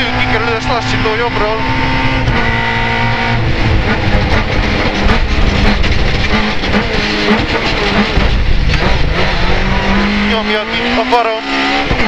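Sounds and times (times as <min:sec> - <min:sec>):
car and road rumble and rattle: 0:00.0 - 0:12.0
rally car engine: 0:00.0 - 0:12.0.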